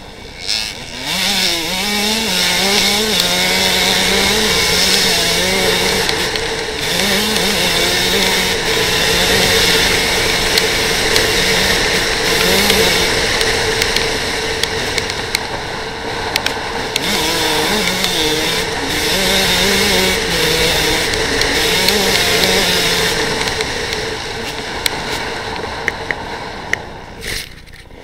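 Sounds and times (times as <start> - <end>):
dirt bike engine revving: 0.0 - 26.3.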